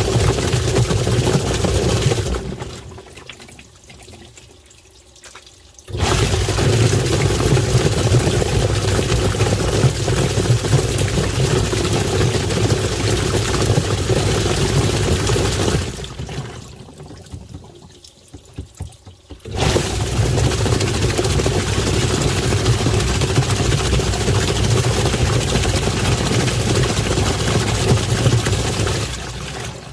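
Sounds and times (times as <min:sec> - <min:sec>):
washing machine motor running: 0:00.0 - 0:03.1, 0:05.9 - 0:17.7, 0:18.3 - 0:29.9
water churning in tub: 0:00.0 - 0:29.9.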